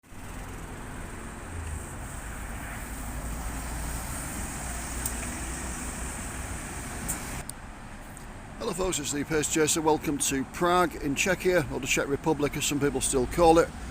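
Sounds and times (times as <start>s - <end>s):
city street traffic rumble: 0.0s - 13.9s.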